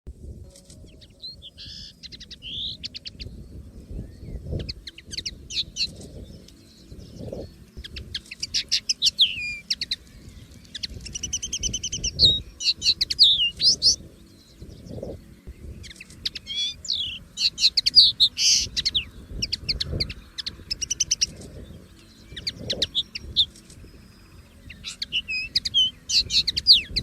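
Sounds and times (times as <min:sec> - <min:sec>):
low rumble: 0:00.1 - 0:27.0
bird twittering song: 0:00.2 - 0:27.0.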